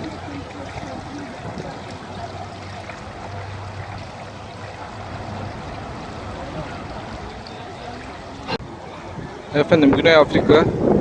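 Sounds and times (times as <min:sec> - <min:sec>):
water running and trickling: 0:00.0 - 0:11.0.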